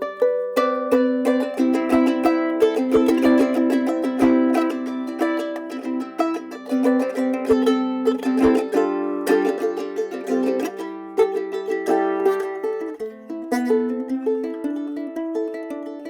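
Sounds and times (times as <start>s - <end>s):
ukulele plucked notes and chords: 0.0s - 16.0s.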